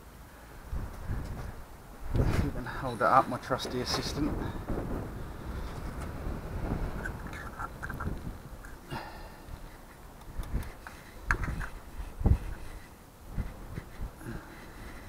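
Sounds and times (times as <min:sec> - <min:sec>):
soft knocks and rubbing: 0:01.0 - 0:08.8, 0:09.6 - 0:14.2.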